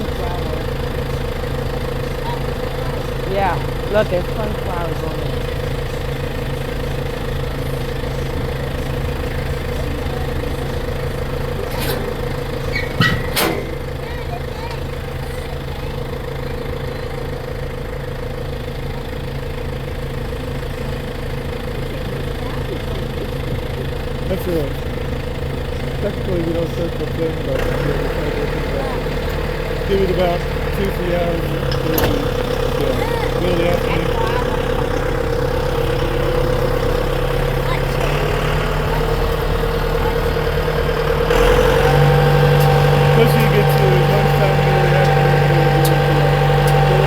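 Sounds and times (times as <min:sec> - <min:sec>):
tractor engine running: 0:00.0 - 0:47.0.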